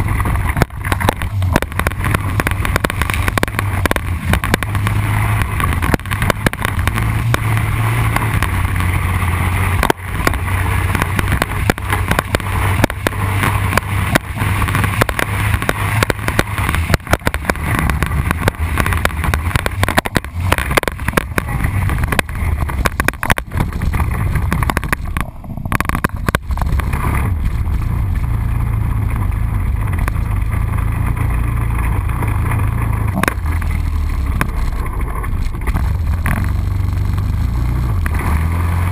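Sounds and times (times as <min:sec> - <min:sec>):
atv engine running: 0:00.0 - 0:38.9
knocks and rattles on gravel: 0:00.0 - 0:38.9.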